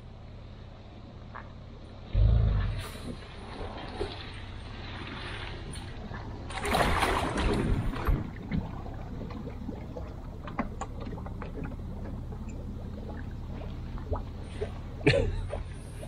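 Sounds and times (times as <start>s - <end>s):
vehicle engine rumbling: 0.0s - 16.0s
water surging around trailer: 1.6s - 16.0s.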